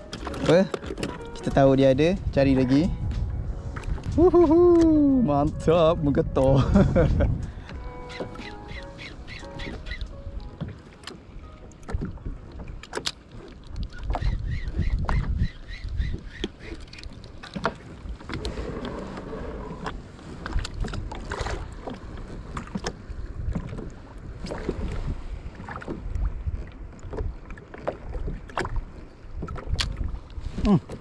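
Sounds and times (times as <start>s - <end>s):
wind rumbling on microphone: 0.0s - 10.7s, 11.8s - 31.0s.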